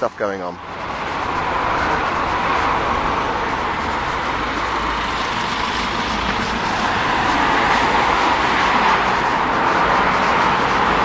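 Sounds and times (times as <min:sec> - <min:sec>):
motor traffic noise: 0:00.0 - 0:11.0.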